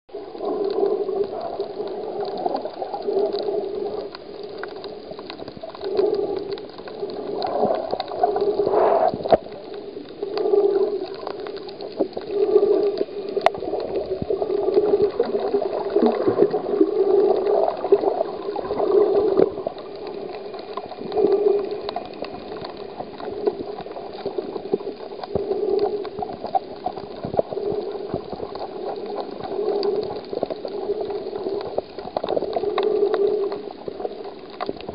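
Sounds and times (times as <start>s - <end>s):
muffled underwater water noise: 0.1s - 34.9s
sharp underwater clicks: 0.1s - 34.9s.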